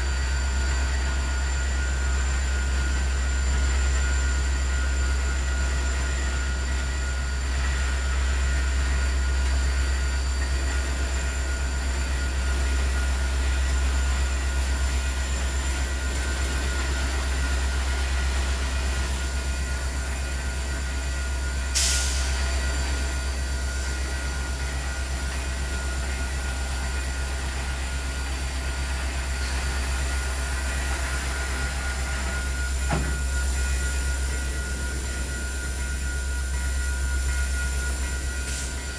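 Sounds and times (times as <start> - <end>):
train cars rumbling on rails: 0.0 - 38.9.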